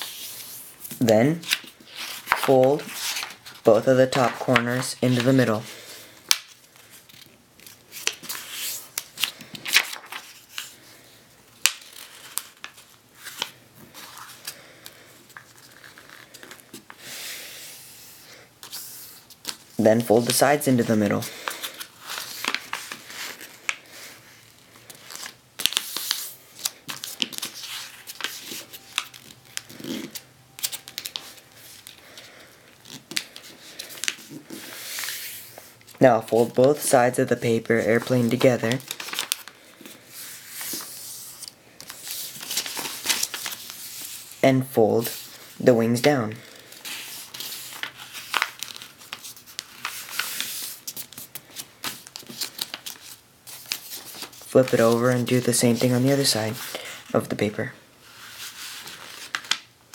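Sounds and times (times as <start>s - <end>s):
paper folding and crinkling: 0.0s - 17.0s, 18.0s - 59.9s.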